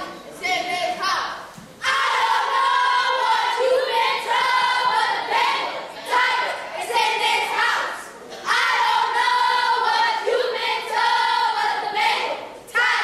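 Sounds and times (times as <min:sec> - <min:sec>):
children chanting in unison: 0:00.0 - 0:13.0.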